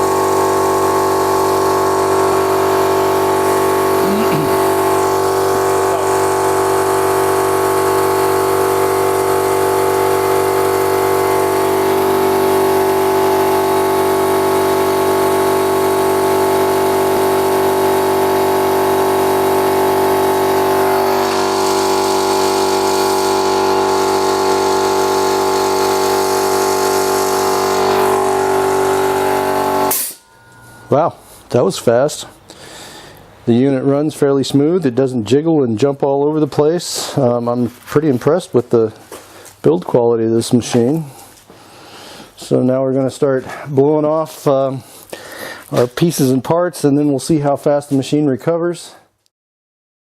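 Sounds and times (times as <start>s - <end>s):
air compressor droning: 0.0s - 35.0s, 35.9s - 48.2s.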